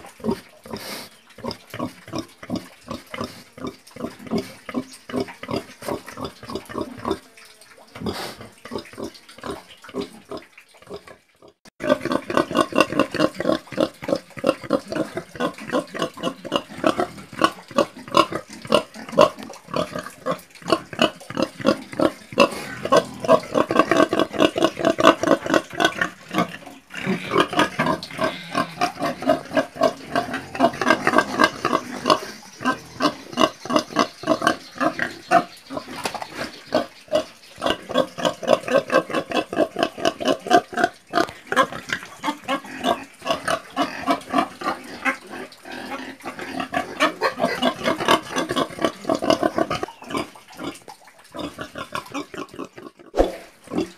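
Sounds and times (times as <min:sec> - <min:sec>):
pigs grunting: 0:00.0 - 0:07.4, 0:08.0 - 0:53.9.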